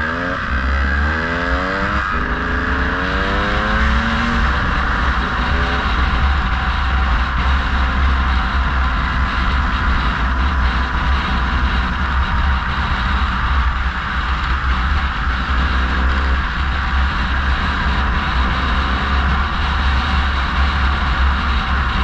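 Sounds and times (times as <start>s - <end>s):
road and tyre noise: 0.0s - 22.0s
wind rumble on microphone: 0.0s - 22.0s.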